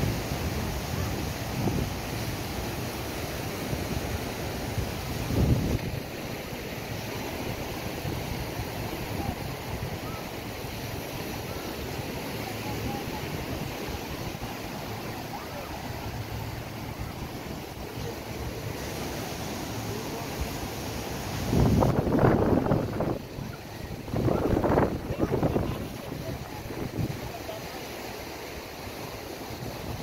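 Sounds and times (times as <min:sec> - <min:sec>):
wind rumbling on microphone: 0:00.0 - 0:27.6, 0:28.8 - 0:30.0
surf washing onto beach: 0:00.0 - 0:30.0.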